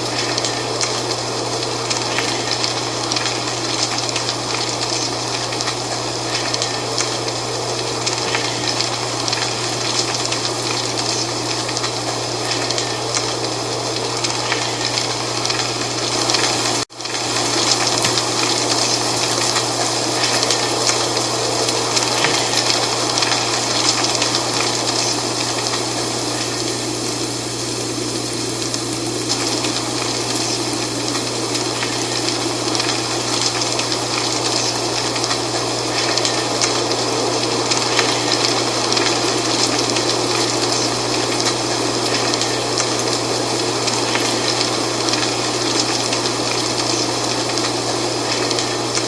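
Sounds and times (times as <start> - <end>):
dry leaves rustling in wind: 0.0 - 49.0.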